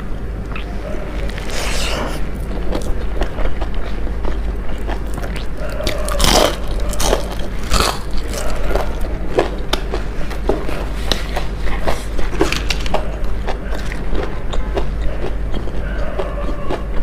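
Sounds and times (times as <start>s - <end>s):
crunchy food chewing: 0.4s - 17.0s.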